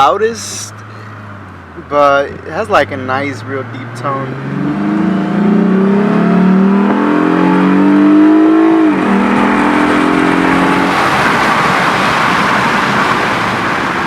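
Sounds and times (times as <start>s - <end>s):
car engine accelerating: 0.0s - 14.0s
road noise: 0.0s - 14.0s.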